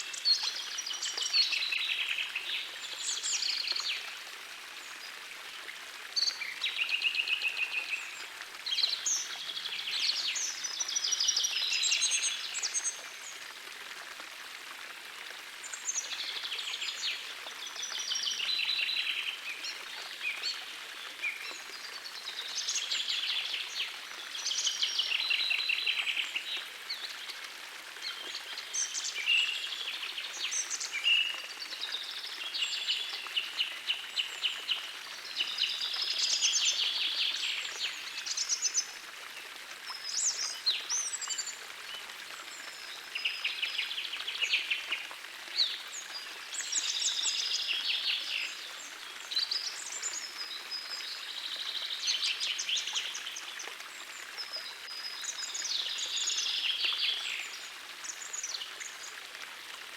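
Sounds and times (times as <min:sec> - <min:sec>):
small stream rushing: 0:00.0 - 0:59.9.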